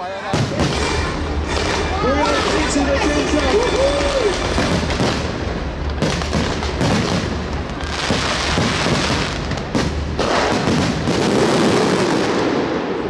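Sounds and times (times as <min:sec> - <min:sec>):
continuous rush of noise: 0:00.0 - 0:13.0
fireworks bursting: 0:00.1 - 0:13.0.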